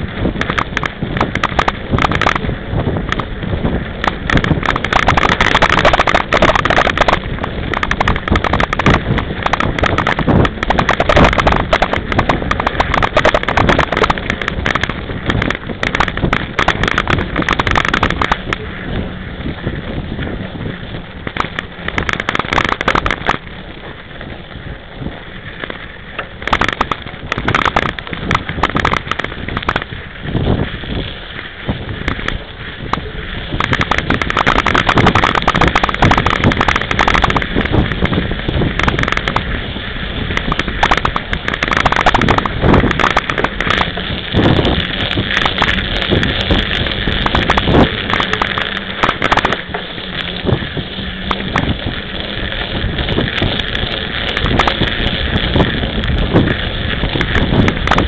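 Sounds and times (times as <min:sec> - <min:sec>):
bike rattling over jolts: 0:00.0 - 0:58.0
bike tyre crackling on snow: 0:00.0 - 0:58.0
wind on microphone: 0:00.0 - 0:58.0.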